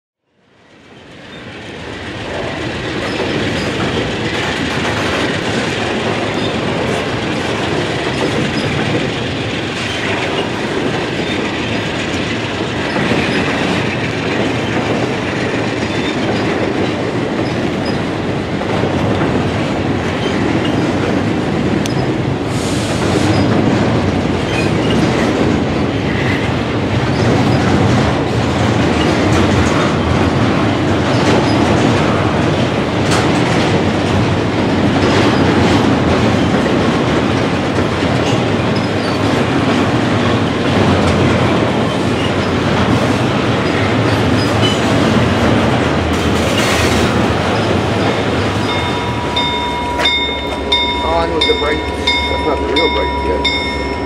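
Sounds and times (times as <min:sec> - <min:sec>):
wheels clickety-clack on rail joints: 0:00.4 - 0:54.0
freight cars wheels rumbling: 0:00.6 - 0:54.0.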